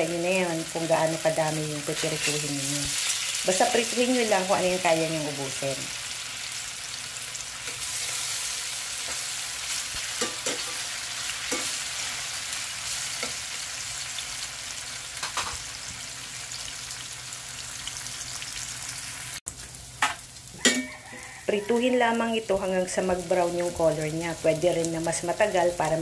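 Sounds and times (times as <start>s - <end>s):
tofu sizzling in hot oil: 0.1s - 21.5s.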